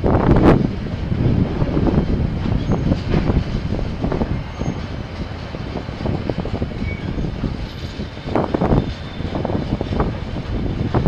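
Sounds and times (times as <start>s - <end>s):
train passing with low rumble: 0.0s - 11.0s.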